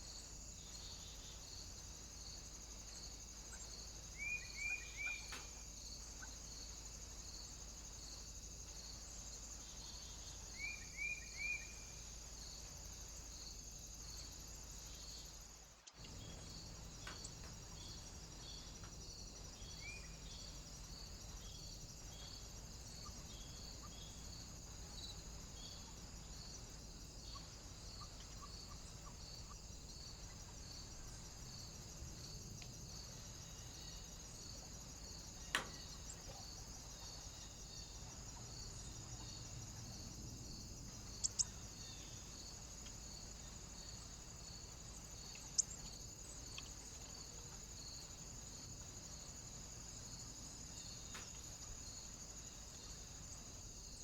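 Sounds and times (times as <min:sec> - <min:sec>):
constant high hiss: 0:00.0 - 0:54.0
high insect-like chirps: 0:00.0 - 0:54.0.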